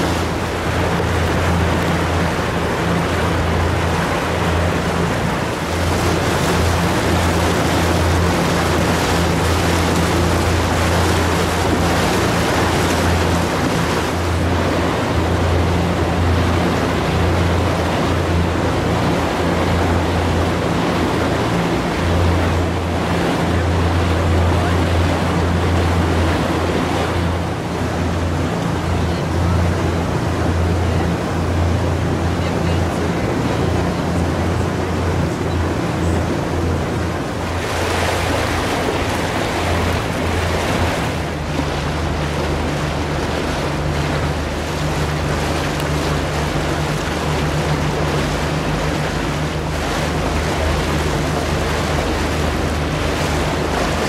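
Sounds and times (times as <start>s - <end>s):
boat motor humming: 0.0s - 54.0s
water rushing: 0.0s - 54.0s.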